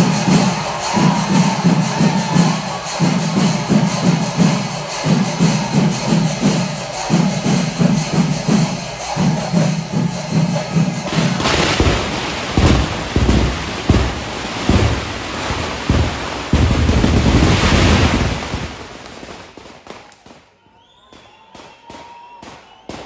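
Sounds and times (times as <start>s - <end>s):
massed drum strokes: 0.0s - 19.2s
clashing cymbals: 0.0s - 19.7s
crowd noise: 0.0s - 23.0s.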